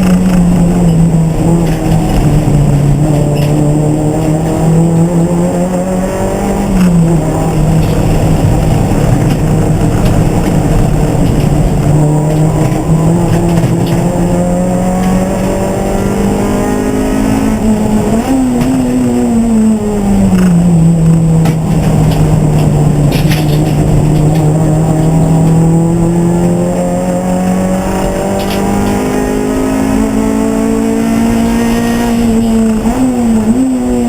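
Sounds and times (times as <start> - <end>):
racing car engine: 0.0 - 34.0.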